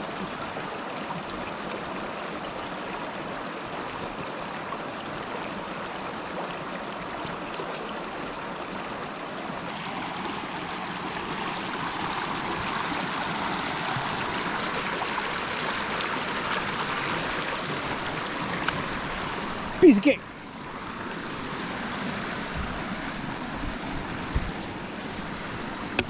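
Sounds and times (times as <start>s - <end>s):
stream running water: 0.0s - 26.0s.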